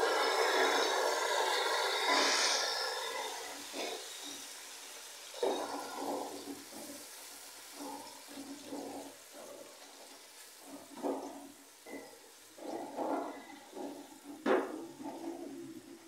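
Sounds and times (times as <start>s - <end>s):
tomatoes sizzling in hot oil: 0.0s - 16.0s.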